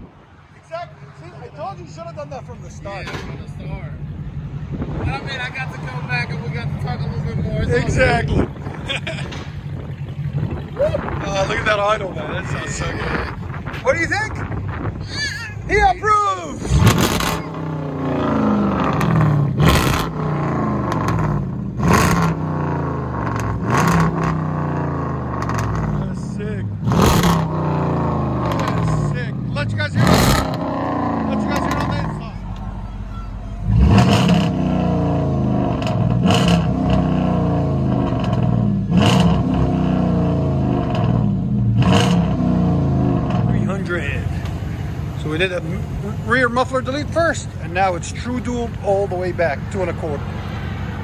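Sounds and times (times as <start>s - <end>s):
car engine revving and idling: 0.0s - 51.0s.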